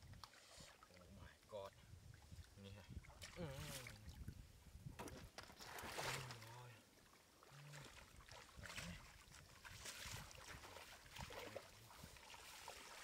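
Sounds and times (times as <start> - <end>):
shallow water sloshing: 0.0 - 13.0.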